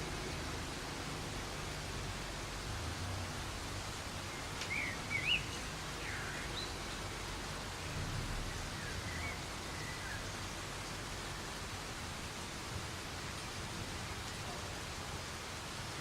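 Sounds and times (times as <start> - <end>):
soft rain falling: 0.0 - 16.0.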